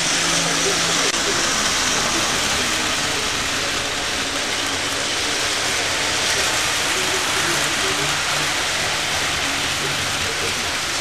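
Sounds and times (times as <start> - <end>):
model train wheels rolling on rail: 0.0 - 11.0.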